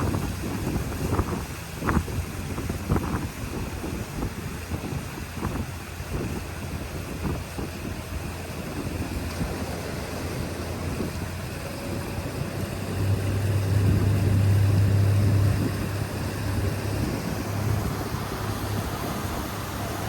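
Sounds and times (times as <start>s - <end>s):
boat motor humming: 0.0s - 20.0s
water: 0.0s - 20.0s
wind noise: 0.0s - 20.0s.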